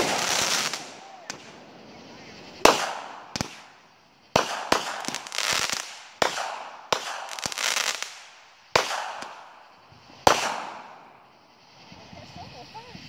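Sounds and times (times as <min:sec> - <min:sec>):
fireworks bangs: 0:00.0 - 0:11.4
fireworks crackling: 0:00.0 - 0:13.0.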